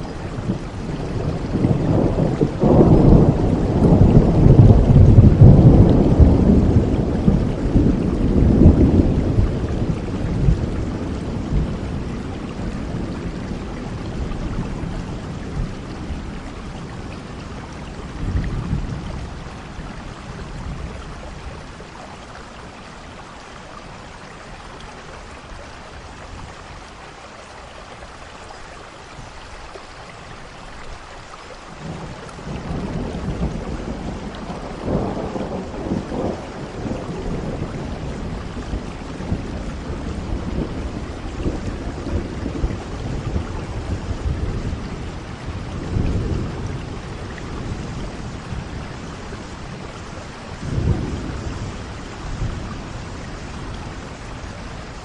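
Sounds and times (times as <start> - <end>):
thunder rumbling: 0.0 - 23.2, 31.8 - 55.0
steady rain: 0.0 - 55.0.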